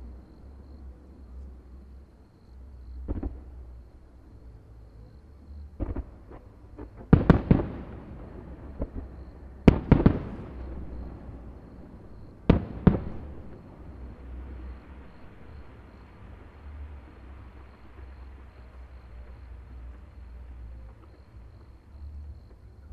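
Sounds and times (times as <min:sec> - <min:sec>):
steady low rumble: 0:00.0 - 0:22.9.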